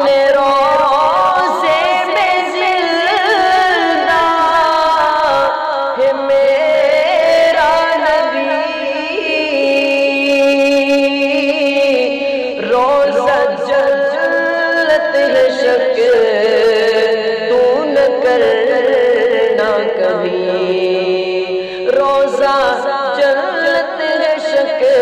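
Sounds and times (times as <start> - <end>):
man singing devotional song: 0.0 - 25.0.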